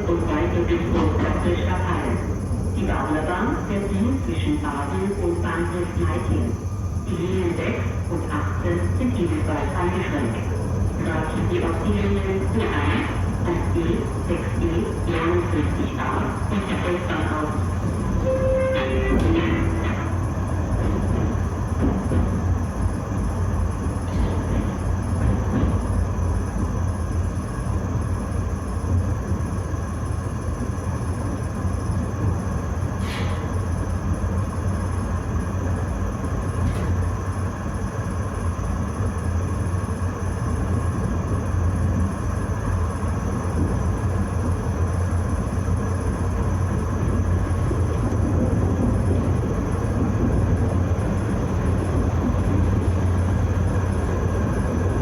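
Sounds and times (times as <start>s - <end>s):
tram rumbling: 0.0s - 55.0s.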